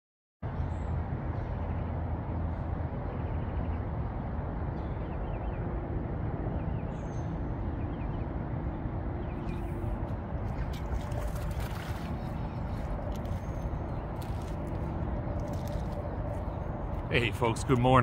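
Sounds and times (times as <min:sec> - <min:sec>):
road traffic noise: 0:00.4 - 0:18.0.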